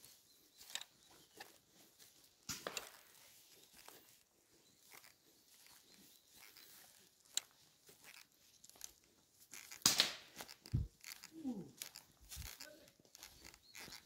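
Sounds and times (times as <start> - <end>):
footsteps on dry leaves: 0.0 - 14.0.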